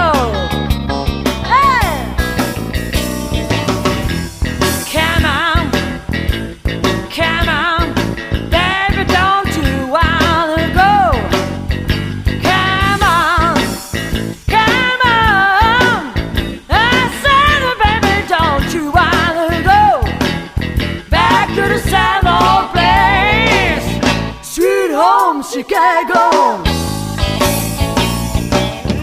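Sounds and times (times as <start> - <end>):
bent notes with vibrato: 0.0 - 29.0
live blues band: 0.0 - 29.0.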